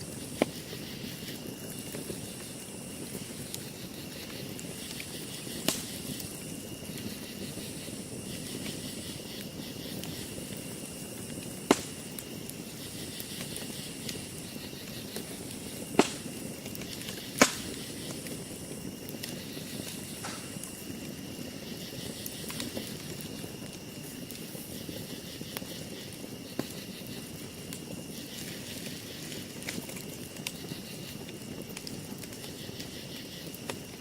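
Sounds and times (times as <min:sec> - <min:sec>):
burning wood popping: 0:00.0 - 0:34.0
campfire crackling: 0:00.0 - 0:34.0.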